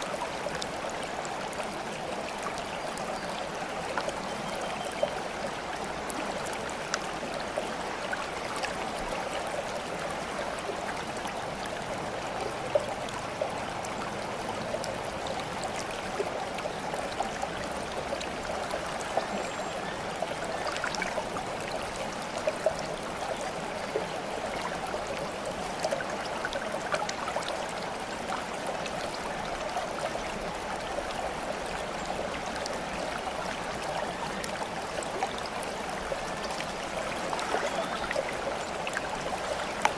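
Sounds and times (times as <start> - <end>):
babbling stream: 0.0 - 39.9
water drips and splashes: 0.0 - 39.9.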